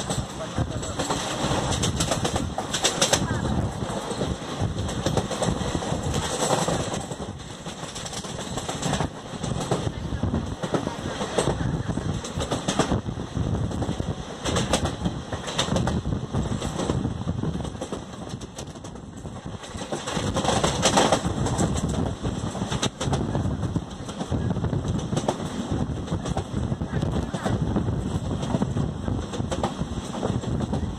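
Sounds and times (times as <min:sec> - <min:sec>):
clacks over rail joints: 0:00.0 - 0:13.0, 0:13.6 - 0:30.9
train wheels rumbling on track: 0:00.0 - 0:30.9.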